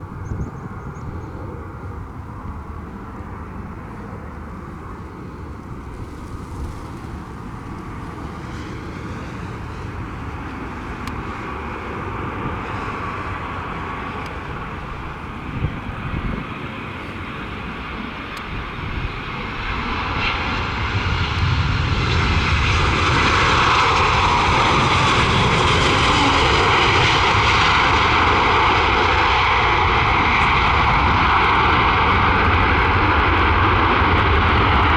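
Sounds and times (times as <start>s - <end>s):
jet engine whine: 0.0s - 34.9s
jet engines roaring: 0.0s - 34.9s.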